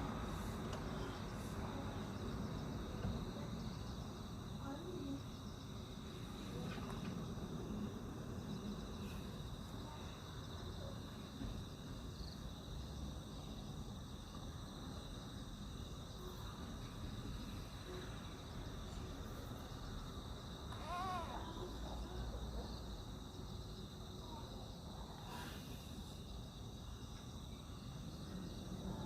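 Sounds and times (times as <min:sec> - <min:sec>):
crickets chirping: 0:00.0 - 0:29.0
low background noise: 0:00.0 - 0:29.0.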